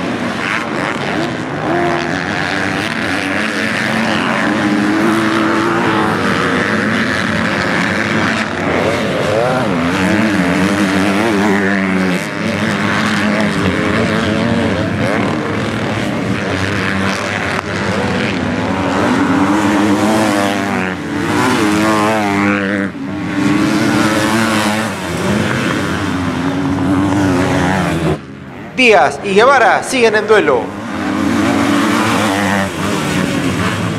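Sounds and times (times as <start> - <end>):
motocross engines revving: 0.0 - 33.9.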